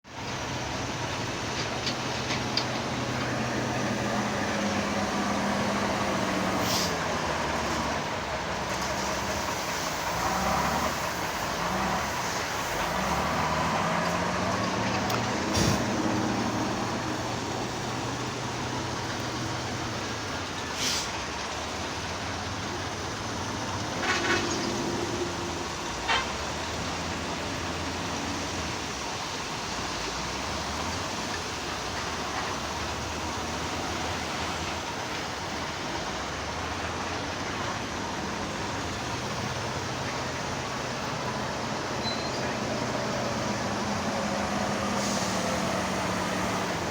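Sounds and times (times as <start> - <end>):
heavy diesel engine revving: 0.1 - 46.9.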